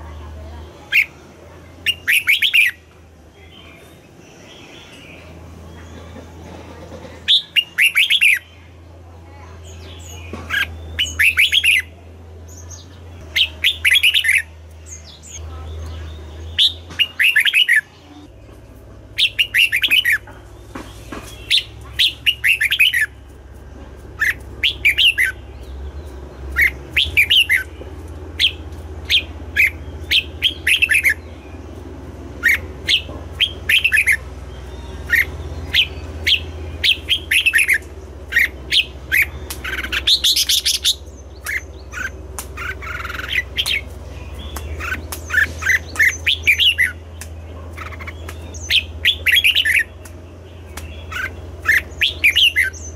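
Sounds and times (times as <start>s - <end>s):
steady low hum: 0.0s - 52.9s
bulbul singing clear notes: 9.5s - 52.9s.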